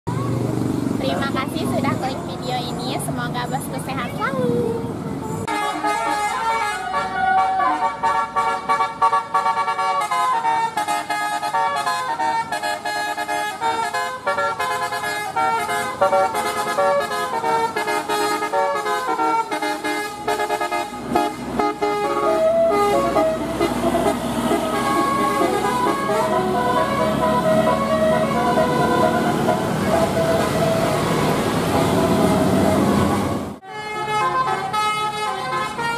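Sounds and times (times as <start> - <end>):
gliding siren-like horn tones: 5.4 - 35.9
musical air horn tune: 5.5 - 35.9.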